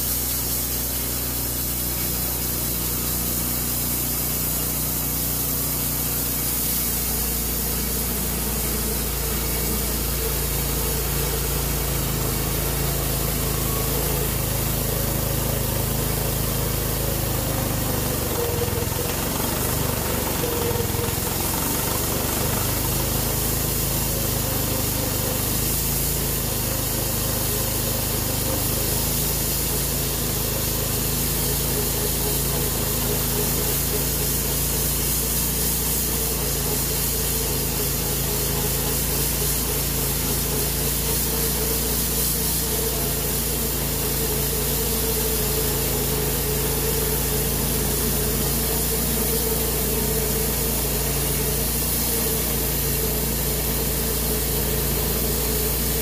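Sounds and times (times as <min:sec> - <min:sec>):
bandsaw mill cutting log: 0:00.0 - 0:56.0.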